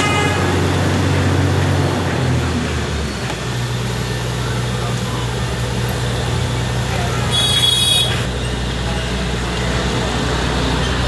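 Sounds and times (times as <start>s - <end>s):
street traffic: 0.0s - 11.0s
vehicle engine humming: 0.0s - 11.0s.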